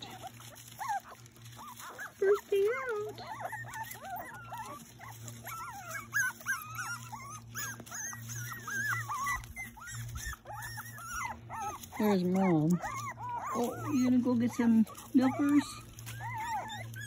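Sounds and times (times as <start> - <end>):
puppies whining: 0.0 - 17.0.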